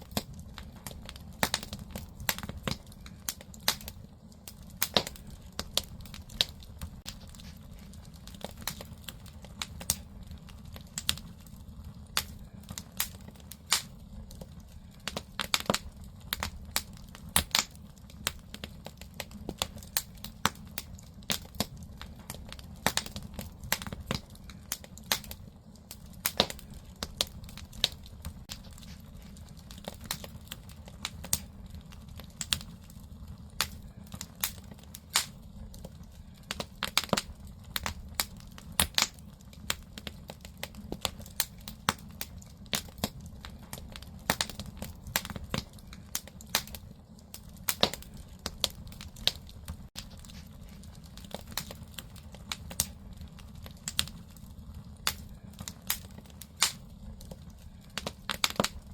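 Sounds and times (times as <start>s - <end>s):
firewood crackling and popping: 0.0s - 58.9s
low rumble of fire: 0.0s - 58.9s.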